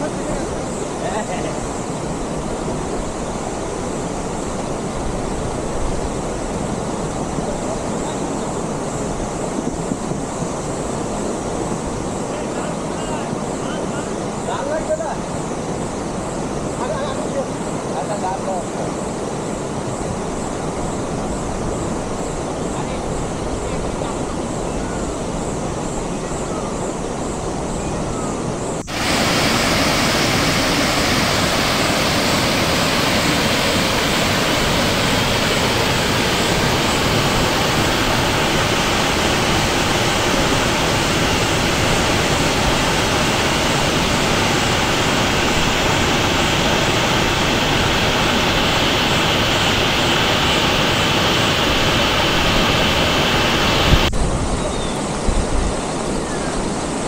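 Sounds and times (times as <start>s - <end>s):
muffled stream water: 0.0s - 57.0s.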